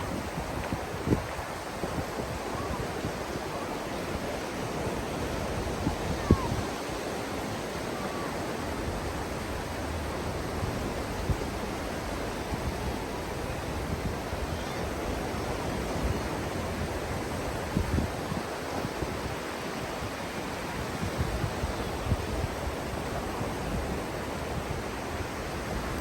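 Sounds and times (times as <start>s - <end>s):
sea surf: 0.0s - 26.0s
wind: 0.0s - 26.0s.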